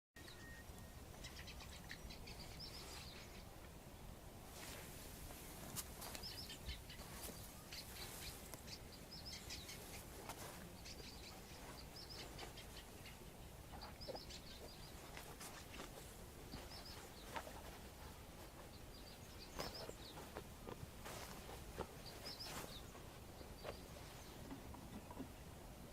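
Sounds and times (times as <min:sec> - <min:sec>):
low outdoor background: 0:00.2 - 0:25.9
small songbirds chirping: 0:00.2 - 0:25.9.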